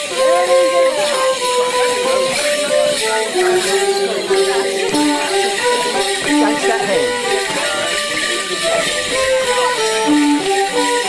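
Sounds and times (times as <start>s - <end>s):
leg bells jingling: 0.0s - 11.0s.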